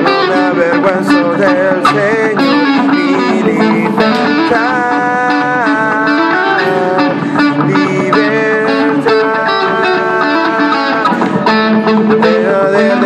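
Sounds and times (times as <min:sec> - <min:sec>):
electric guitar sustained chords: 0:00.0 - 0:13.0.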